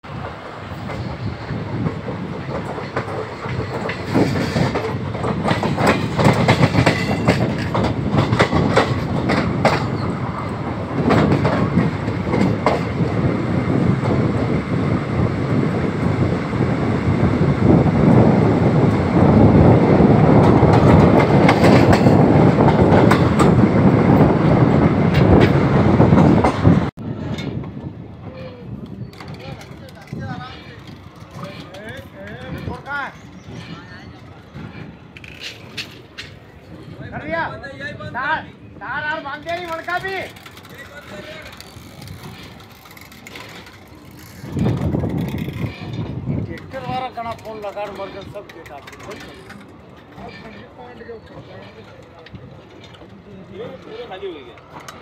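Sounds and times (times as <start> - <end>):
train wheels rumbling: 0.0 - 55.0
wheels clicking over rail joints: 1.8 - 14.8, 17.6 - 37.4, 39.0 - 55.0.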